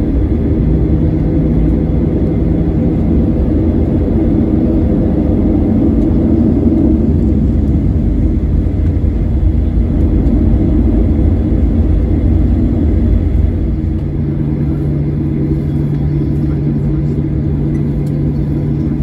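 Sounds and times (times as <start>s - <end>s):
aircraft engines rumbling: 0.0s - 19.0s
steady low hum: 0.0s - 19.0s.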